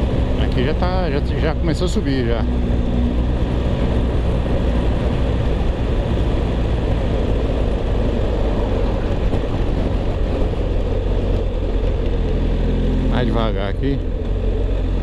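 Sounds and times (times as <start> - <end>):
wind rushing on microphone: 0.0 - 12.2
motorcycle engine running: 0.0 - 15.0.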